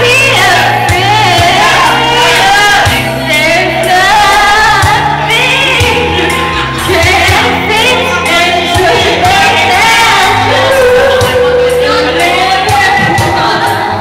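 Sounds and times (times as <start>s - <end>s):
instrumental backing track: 0.0s - 14.0s
woman singing pop ballad: 0.0s - 14.0s.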